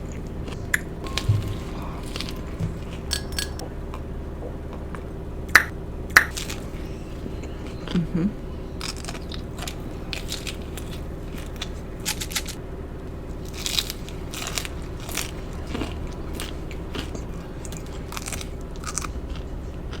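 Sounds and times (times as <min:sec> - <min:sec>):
crisp lettuce crunching: 0:00.0 - 0:03.6, 0:06.2 - 0:12.6, 0:13.2 - 0:20.0
steady low hum: 0:00.0 - 0:20.0.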